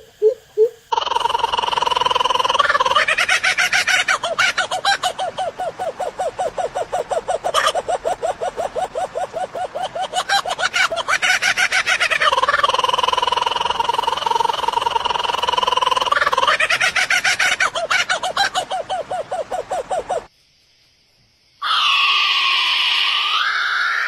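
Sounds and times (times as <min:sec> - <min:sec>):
bird calling: 0:00.0 - 0:20.3.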